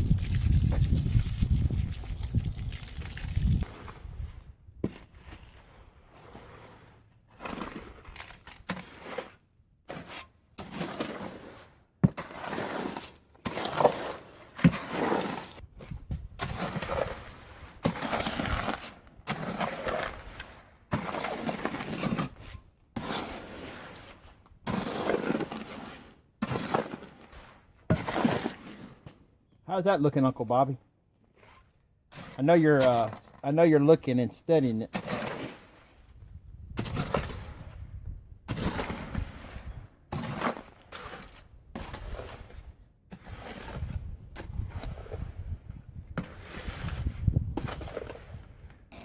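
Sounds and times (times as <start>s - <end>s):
tool scraping concrete mix: 0.0s - 29.2s, 31.2s - 49.0s.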